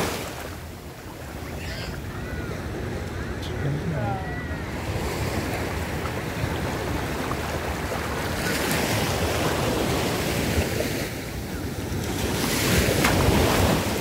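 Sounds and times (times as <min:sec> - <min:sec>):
sea waves washing: 0:00.0 - 0:14.0.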